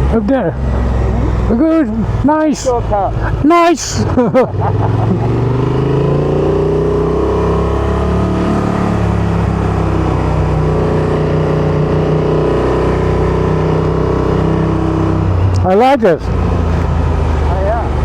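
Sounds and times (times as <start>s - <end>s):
van engine accelerating: 0.0s - 18.0s.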